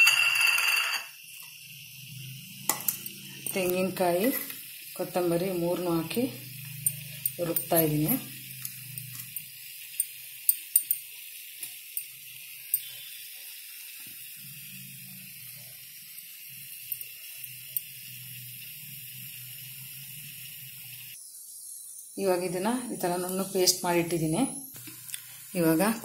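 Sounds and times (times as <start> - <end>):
steady hiss: 1.1 - 26.0.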